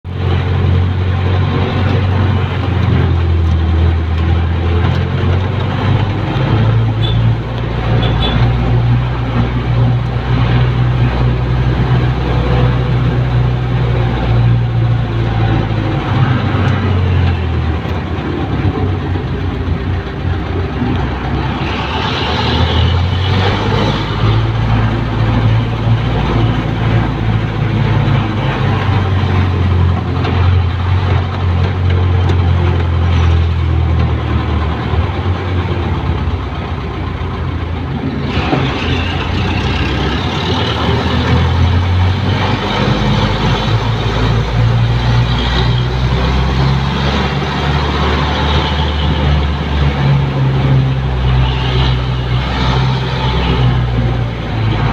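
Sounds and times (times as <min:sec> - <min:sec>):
diesel engine droning: 0:00.0 - 0:54.9.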